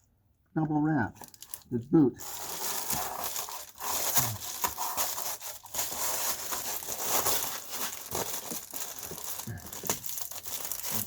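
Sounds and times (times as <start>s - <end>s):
foil insulation crinkling: 1.2s - 11.0s.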